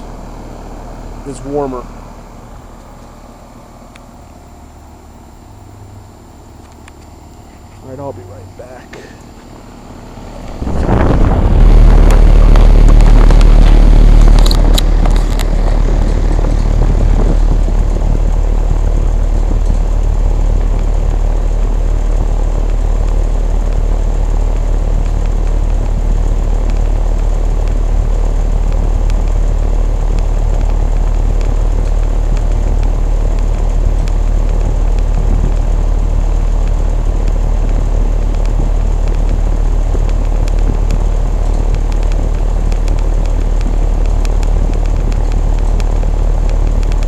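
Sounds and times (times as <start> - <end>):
air conditioner unit humming: 0.0 - 47.0.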